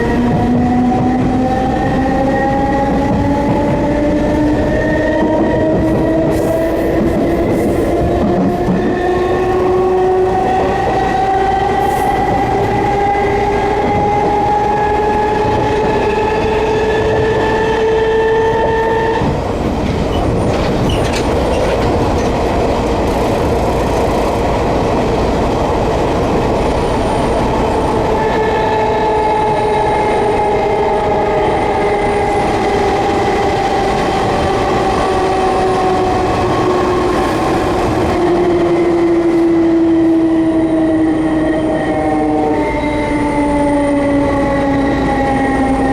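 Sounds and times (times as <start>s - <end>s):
wheels rumbling on rail: 0.0s - 45.9s.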